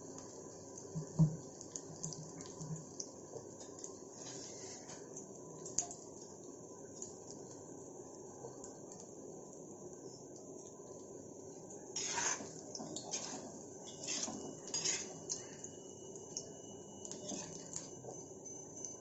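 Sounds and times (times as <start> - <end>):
oil sizzling with crackles: 0.0 - 19.0.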